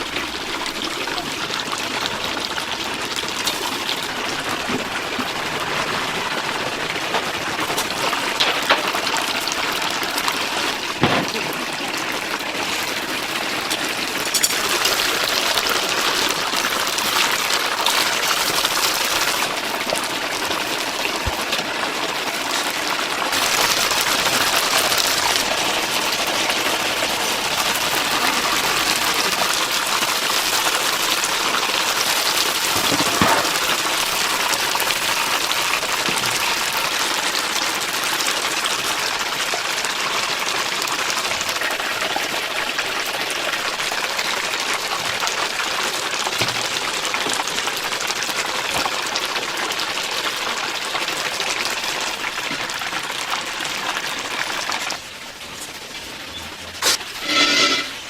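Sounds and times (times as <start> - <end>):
chicken sizzling in hot oil: 0.0 - 58.0.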